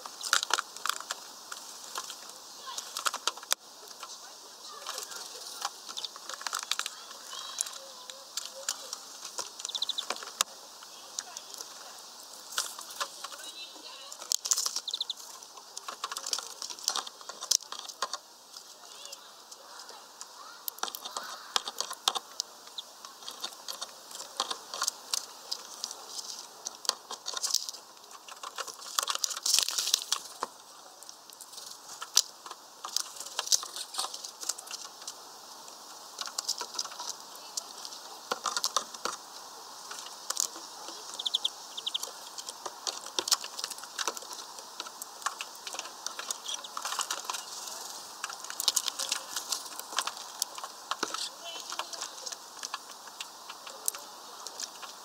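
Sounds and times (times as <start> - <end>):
birds pecking at feeder: 0.0 - 55.0.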